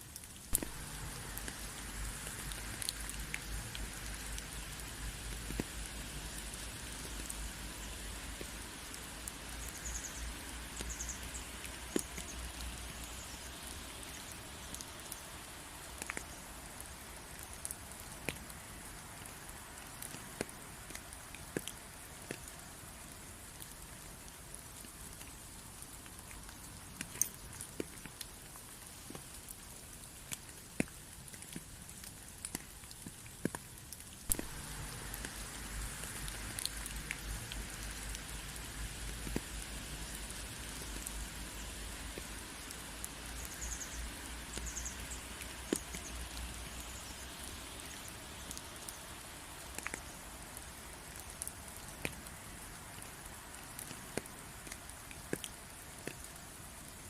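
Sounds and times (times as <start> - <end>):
rain hissing: 0.0 - 30.2, 34.0 - 57.0
raindrops ticking on a surface: 0.0 - 57.0.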